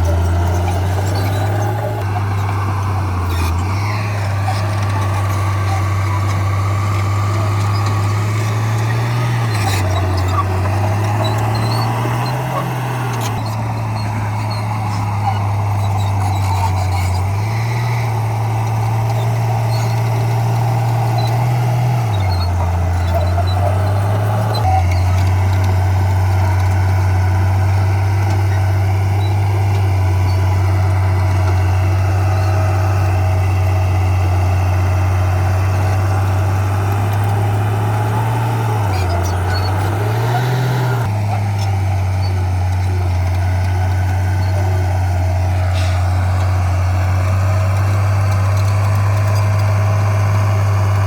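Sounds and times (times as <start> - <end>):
bulldozer diesel engine running: 0.0 - 51.0.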